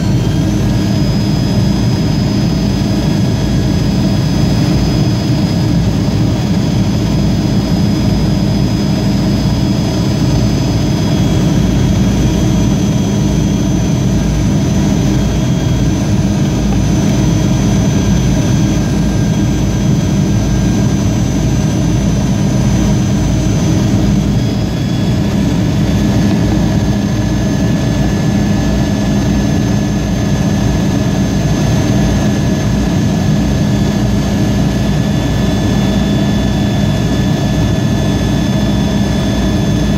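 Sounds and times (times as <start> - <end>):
high-pitched engine whines: 0.0 - 39.9
jet engine drone: 0.0 - 39.9.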